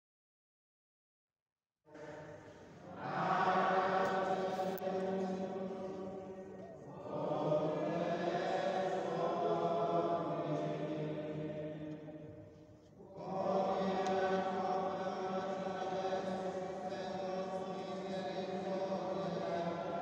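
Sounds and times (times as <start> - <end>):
chant-like vocal music: 1.9 - 20.0.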